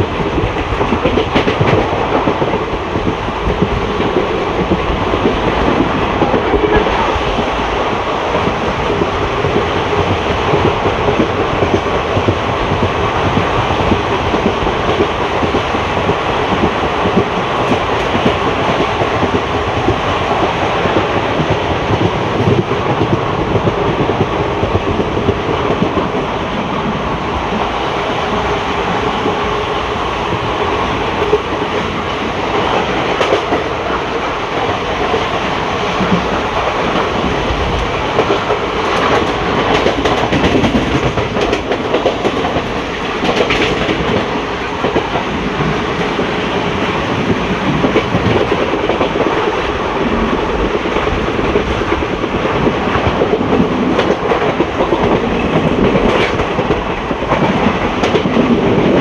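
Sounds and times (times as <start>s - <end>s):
clickety-clack of rail joints: 0.0s - 59.0s
train wheels rumbling on rails: 0.0s - 59.0s.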